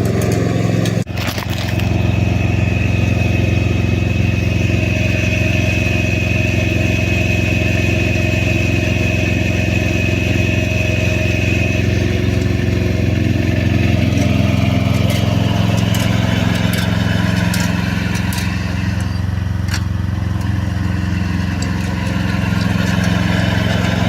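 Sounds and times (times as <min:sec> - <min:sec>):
snowblower engine running: 0:00.0 - 0:24.0.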